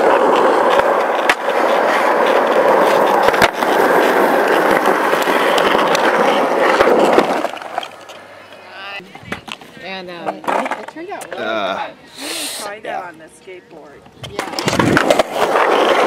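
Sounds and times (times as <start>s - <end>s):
skateboard clacking on ground: 0.0s - 11.4s, 14.0s - 16.0s
skateboard wheels rolling on concrete: 0.0s - 12.0s, 12.6s - 16.0s.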